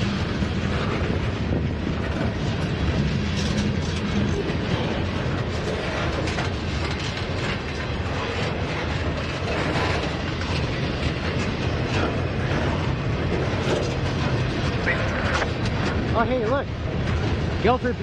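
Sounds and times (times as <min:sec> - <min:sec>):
train clicks and clatter: 0:00.0 - 0:18.0
train wheels rumbling on rail: 0:00.0 - 0:18.0.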